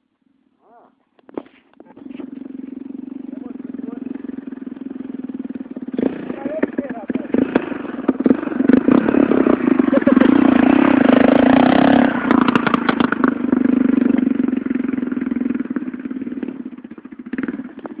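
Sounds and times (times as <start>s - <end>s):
motocross bike engine: 0.6s - 18.0s.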